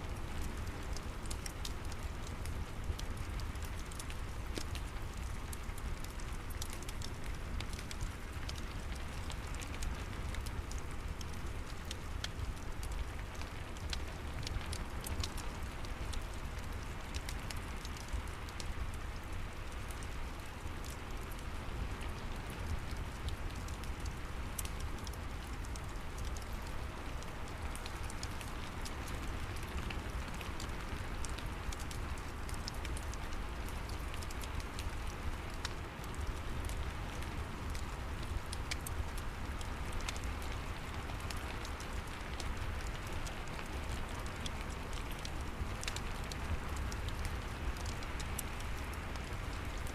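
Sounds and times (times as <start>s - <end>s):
steady rain falling: 0.0s - 49.9s
wood fire crackling: 0.0s - 49.9s.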